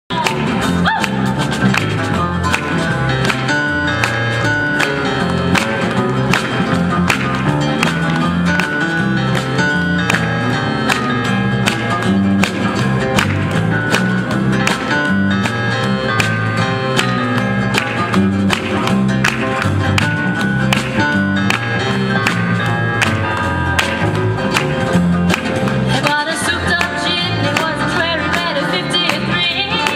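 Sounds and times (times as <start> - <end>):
acoustic guitars playing: 0.1 - 29.9
bass line: 0.1 - 29.9.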